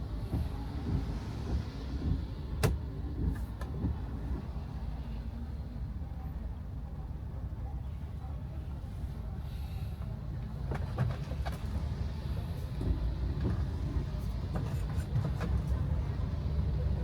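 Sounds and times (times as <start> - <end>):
car engine rumble: 0.0 - 17.0
road noise inside car: 0.0 - 17.0.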